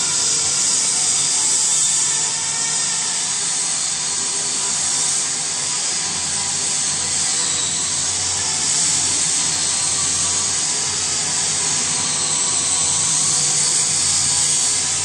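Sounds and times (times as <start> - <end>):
mixer machine hiss: 0.0 - 15.0.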